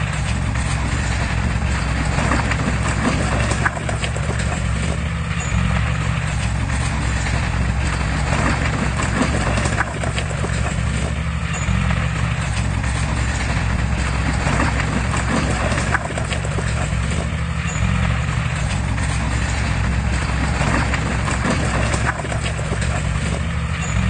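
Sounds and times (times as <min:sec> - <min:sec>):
bulldozer diesel engine running: 0:00.0 - 0:24.0
metallic clanks of tracks: 0:00.0 - 0:24.0.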